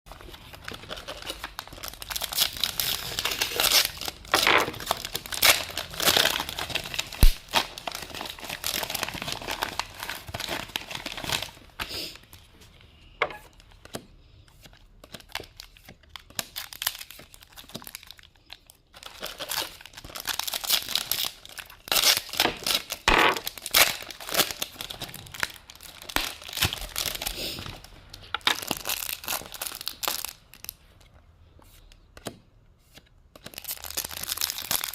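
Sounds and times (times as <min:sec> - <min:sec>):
plastic wrapper crinkling and tearing: 0:00.1 - 0:12.5, 0:14.6 - 0:31.1, 0:33.3 - 0:34.9.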